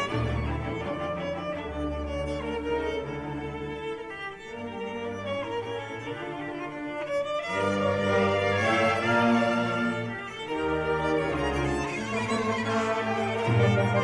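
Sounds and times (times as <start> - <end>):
cellos and basses: 0.0 - 14.0
orchestra strings: 0.0 - 14.0
solo violin: 0.0 - 14.0.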